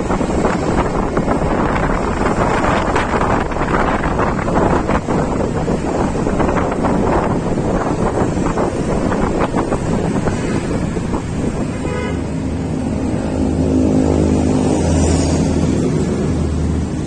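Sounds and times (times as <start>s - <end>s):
vehicle engine hum: 0.0s - 17.0s
wind buffeting microphone: 0.0s - 17.0s.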